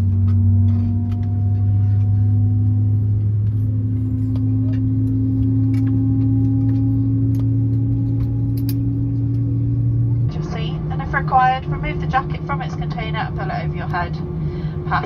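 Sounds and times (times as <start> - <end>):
aircraft cabin drone: 0.0 - 15.0
steady hum tone: 1.6 - 15.0.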